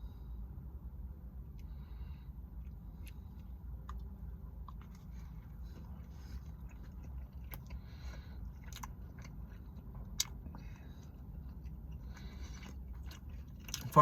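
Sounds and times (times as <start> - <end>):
person chewing food: 1.5 - 14.0.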